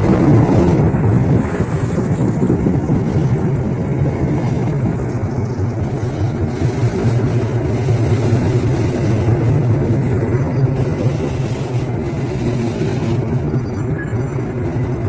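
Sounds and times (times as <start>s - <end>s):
locomotive engine rumbling: 0.0s - 15.0s.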